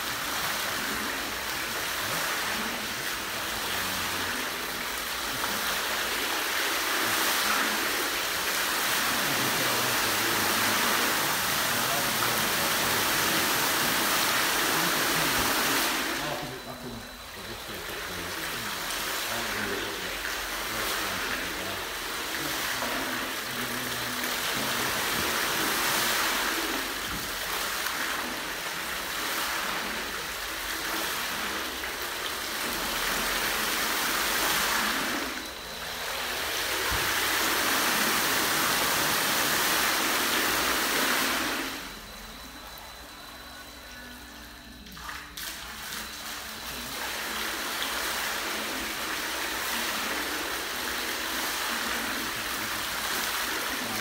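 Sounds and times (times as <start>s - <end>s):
fountain water splashing into tank: 0.0s - 54.0s.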